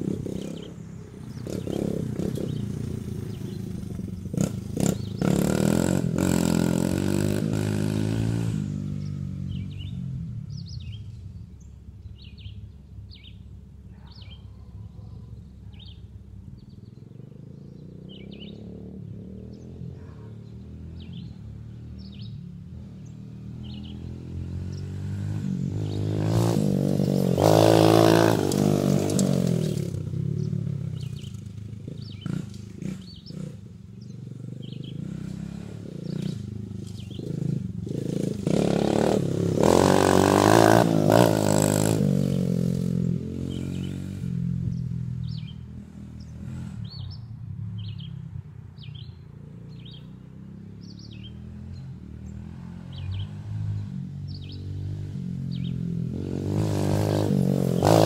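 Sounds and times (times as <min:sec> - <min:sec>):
dirt bike engine revving past: 0:00.0 - 0:11.0, 0:17.6 - 0:48.2, 0:49.6 - 0:58.0.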